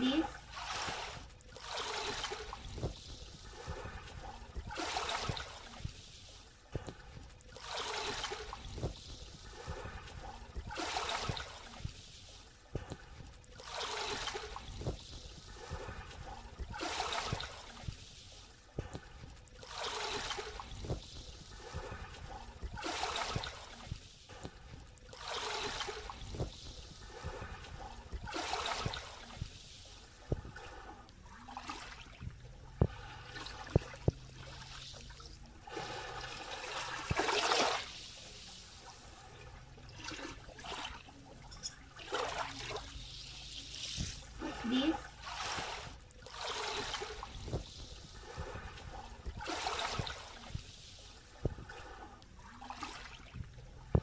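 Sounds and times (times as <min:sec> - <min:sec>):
small waves lapping on sand: 0:00.0 - 0:54.0.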